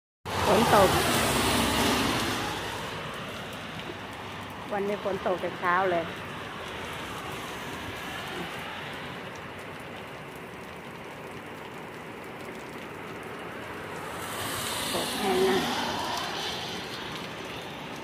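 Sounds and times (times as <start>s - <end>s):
heavy rain on road: 0.3s - 18.0s.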